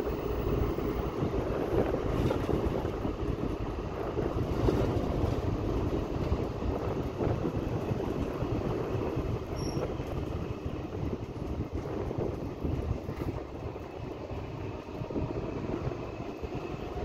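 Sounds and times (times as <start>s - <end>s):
car engine and tyre noise: 0.0s - 17.0s
wind buffeting microphone: 0.0s - 17.0s.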